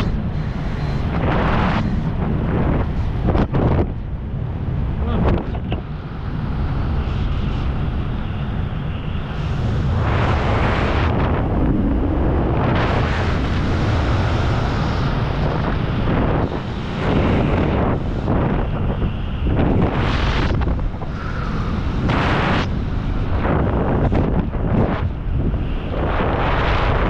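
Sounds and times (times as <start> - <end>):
heavy wind buffeting microphone: 0.0 - 27.0.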